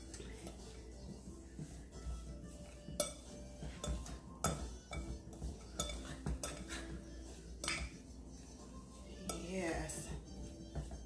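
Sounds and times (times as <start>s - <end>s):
utensil scraping glass bowl: 0.0s - 11.0s.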